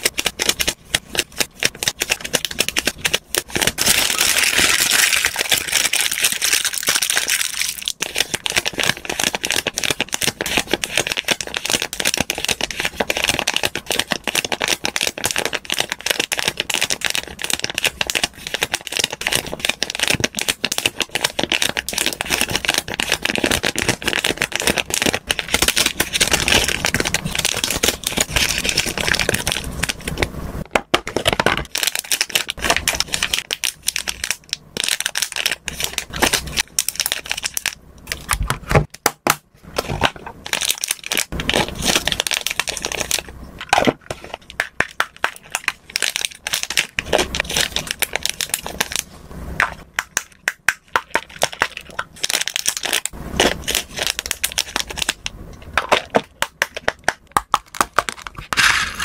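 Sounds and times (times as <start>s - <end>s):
plastic bags crinkling: 0.0s - 30.2s, 31.1s - 38.4s, 39.9s - 49.1s, 51.0s - 59.0s.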